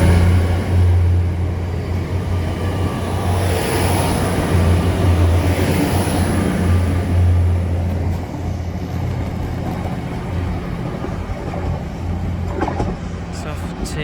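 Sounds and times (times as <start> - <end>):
train engine rumble: 0.0 - 14.0.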